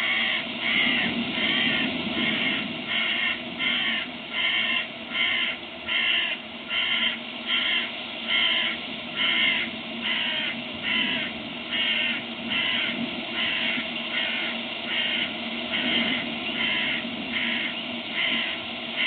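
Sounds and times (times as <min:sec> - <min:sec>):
crow cawing: 0:00.0 - 0:19.0.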